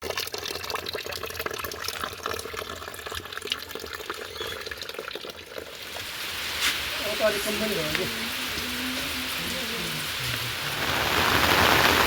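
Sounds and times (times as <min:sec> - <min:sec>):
water drips and spatters: 0:00.0 - 0:12.0
water running and splashing: 0:00.0 - 0:12.0.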